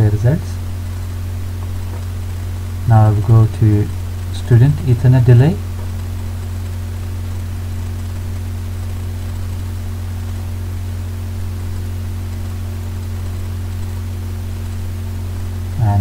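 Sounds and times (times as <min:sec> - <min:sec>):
low electrical hum: 0:00.0 - 0:16.0
steady hiss: 0:00.0 - 0:16.0.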